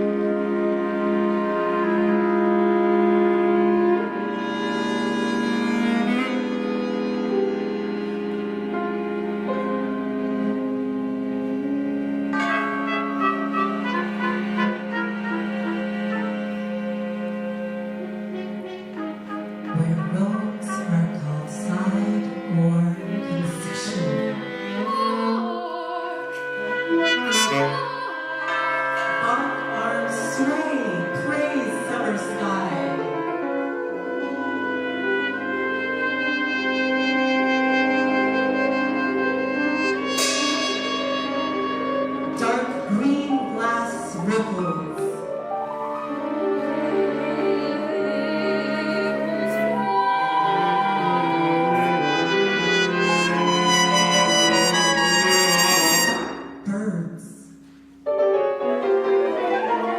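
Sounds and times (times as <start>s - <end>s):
chamber ensemble playing held chords: 0.0s - 57.1s, 58.1s - 59.9s.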